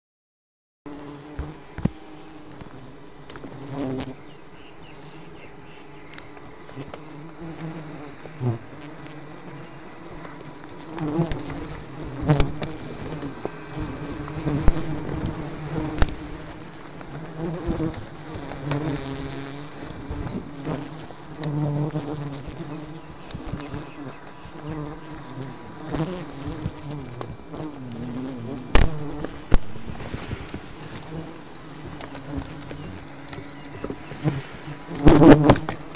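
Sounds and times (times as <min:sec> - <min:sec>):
bees buzzing: 0:00.9 - 0:35.9.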